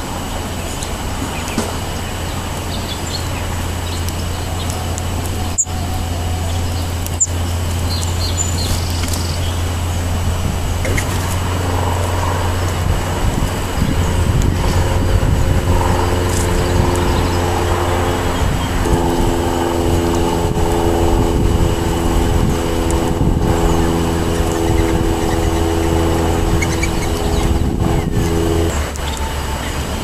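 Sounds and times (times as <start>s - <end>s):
traffic rumble: 0.0s - 30.0s
vehicle engine passing: 0.0s - 30.0s.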